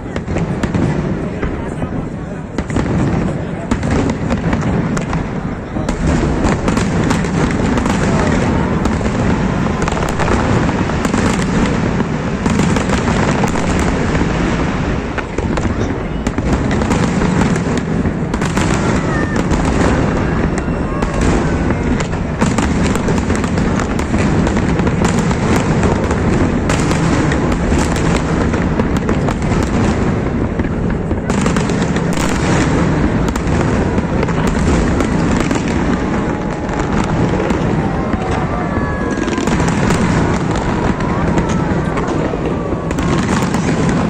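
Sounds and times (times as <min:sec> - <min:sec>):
fireworks bursting and crackling: 0:00.0 - 0:44.0.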